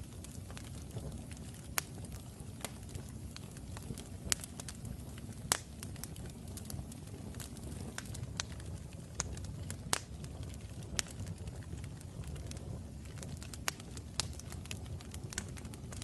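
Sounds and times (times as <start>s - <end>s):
fire burning rumble: 0.0s - 16.0s
fire popping and snapping: 0.0s - 16.0s.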